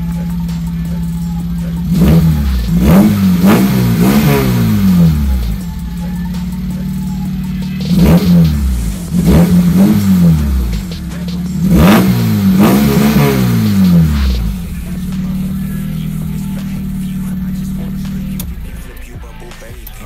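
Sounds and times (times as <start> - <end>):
unsilenced car engine revving: 0.0 - 20.0.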